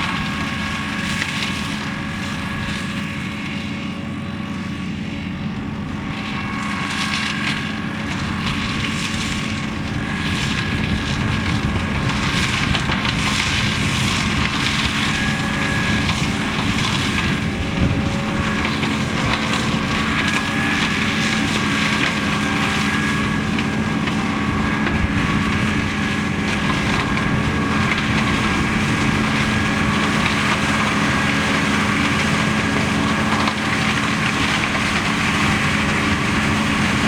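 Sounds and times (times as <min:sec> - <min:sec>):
hedge cutter head whining: 0:00.0 - 0:37.0
tractor diesel engine running: 0:00.0 - 0:37.0.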